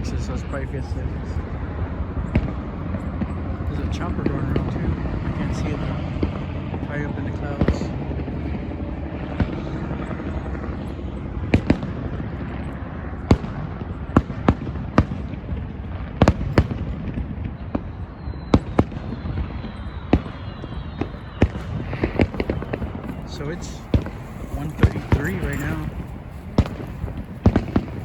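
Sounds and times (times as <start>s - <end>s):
fireworks bangs: 0.0s - 9.8s, 11.4s - 12.5s, 13.2s - 28.0s.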